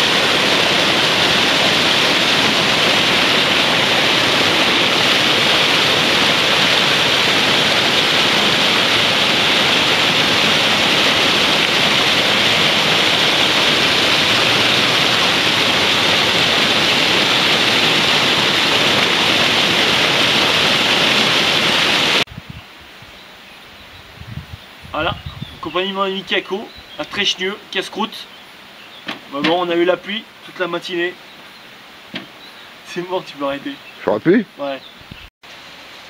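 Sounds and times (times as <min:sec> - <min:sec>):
rushing water cascading: 0:00.0 - 0:36.0.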